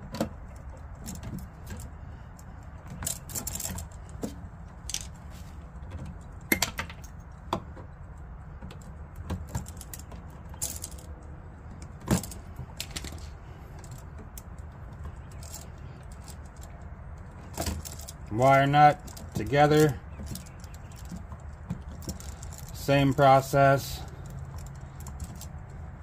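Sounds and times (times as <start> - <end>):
copper wires clicking and rattling: 0.0 - 26.0.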